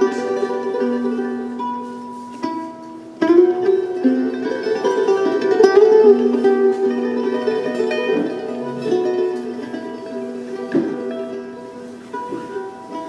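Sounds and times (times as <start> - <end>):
plucked string music: 0.0 - 13.0.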